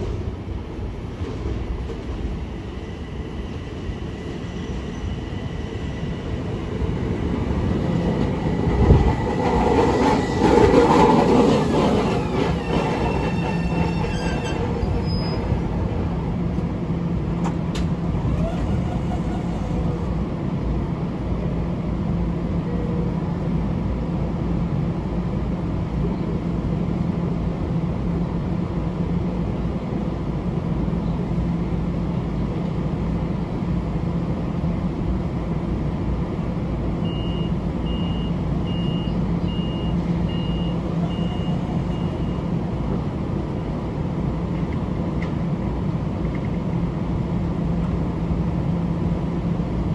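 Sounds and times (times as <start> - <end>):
train rumble and hum: 0.0 - 49.9.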